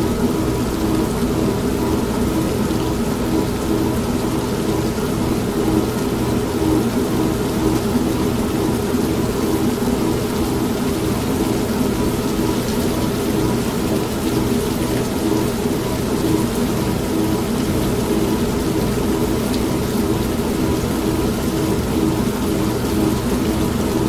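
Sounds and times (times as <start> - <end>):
steady rain: 0.0 - 24.0
washing machine humming: 0.0 - 24.0.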